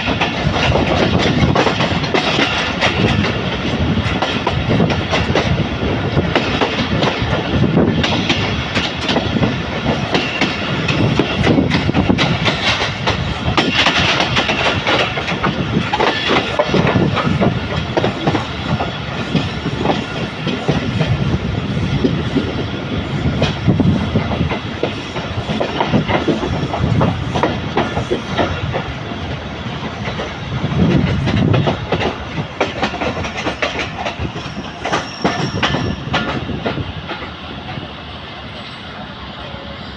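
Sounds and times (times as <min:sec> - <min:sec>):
train wheels clattering over rail joints: 0:00.0 - 0:37.8.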